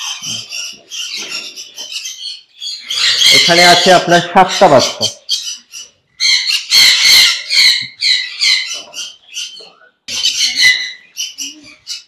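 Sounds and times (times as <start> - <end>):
budgerigars squawking: 0.0 - 12.0.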